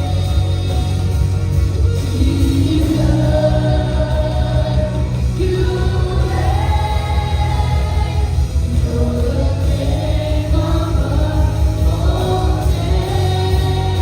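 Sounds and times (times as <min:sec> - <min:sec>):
band with bass and drums: 0:00.0 - 0:14.0
voices singing: 0:00.0 - 0:14.0.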